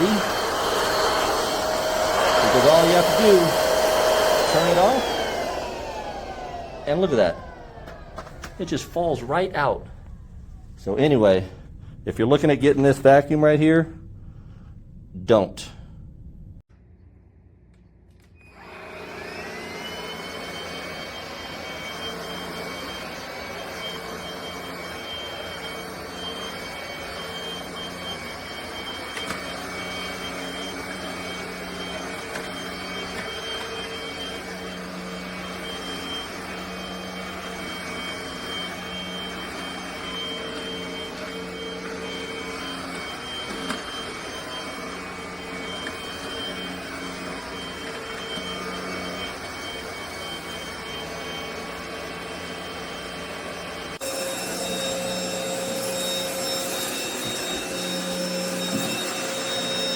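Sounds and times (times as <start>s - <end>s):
stick vacuum motor whine: 0.0s - 15.0s, 18.2s - 59.9s.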